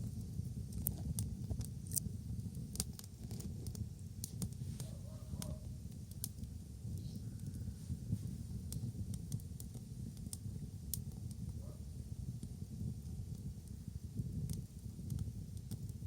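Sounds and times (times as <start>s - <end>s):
bonfire crackling and popping: 0.0s - 16.0s
low steady rumble: 0.0s - 16.0s.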